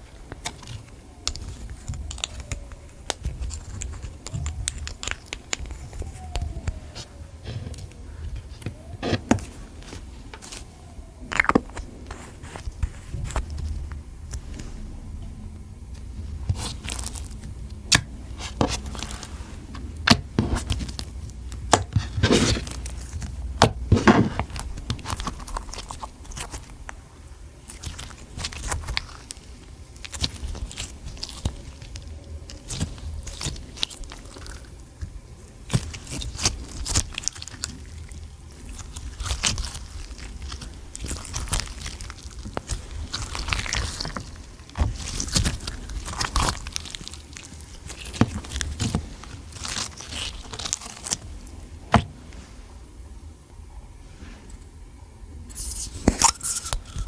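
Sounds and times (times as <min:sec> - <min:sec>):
slime kneaded by hand: 0:00.0 - 0:52.8.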